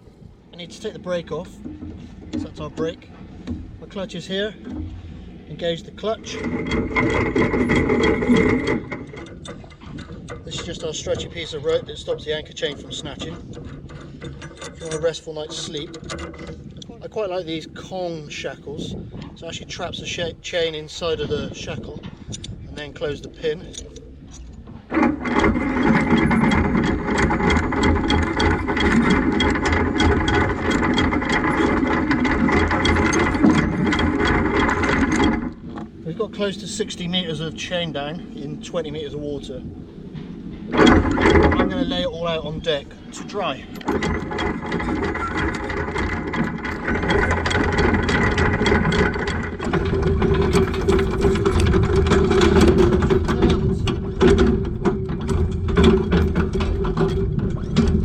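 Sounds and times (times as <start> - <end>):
windlass motor hum: 0.0 - 58.0.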